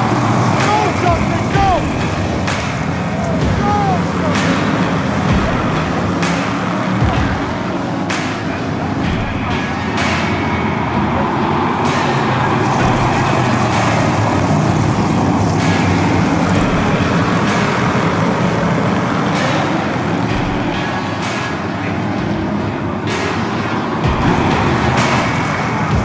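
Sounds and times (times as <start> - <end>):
cars passing close: 0.0 - 26.0
race car engines: 0.0 - 26.0.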